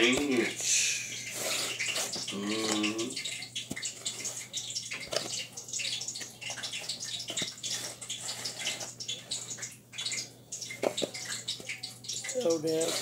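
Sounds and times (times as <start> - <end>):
hot grease crackling and popping: 0.0 - 13.0.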